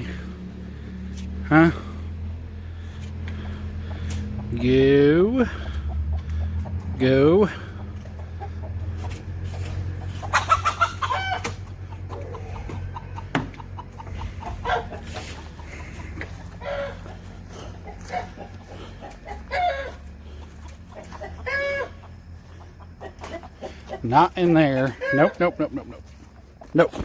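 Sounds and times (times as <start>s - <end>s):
hens calling: 0.0s - 27.0s.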